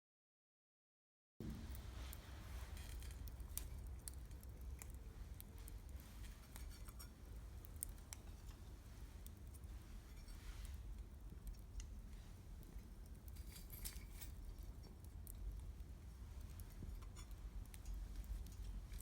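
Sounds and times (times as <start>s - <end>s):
wood campfire crackling: 1.4s - 19.0s.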